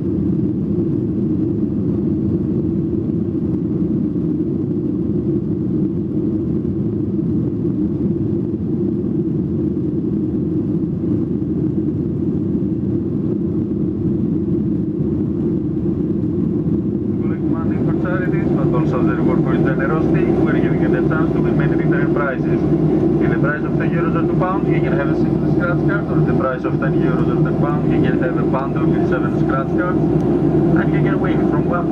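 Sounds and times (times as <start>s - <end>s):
airplane cabin rumble: 0.0s - 31.9s.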